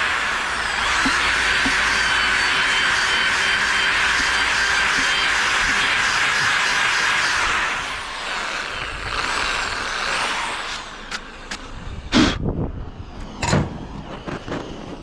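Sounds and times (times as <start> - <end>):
loud steady machine noise: 0.0 - 15.0.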